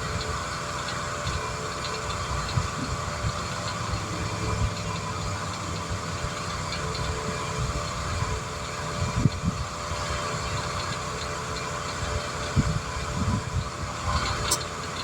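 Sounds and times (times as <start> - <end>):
motor idling hum: 0.0 - 15.0.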